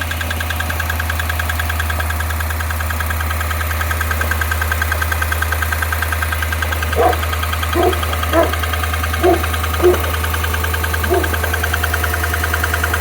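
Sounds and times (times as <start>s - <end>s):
car engine idling: 0.0s - 13.0s
fast even exhaust ticking: 0.8s - 13.0s.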